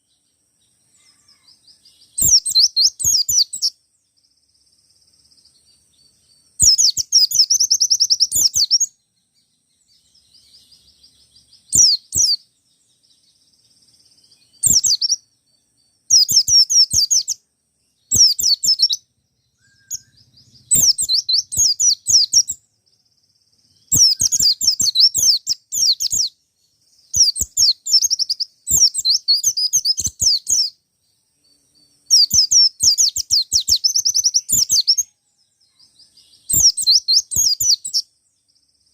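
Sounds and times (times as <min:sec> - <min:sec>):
bird twittering high-pitched: 0:00.0 - 0:38.9.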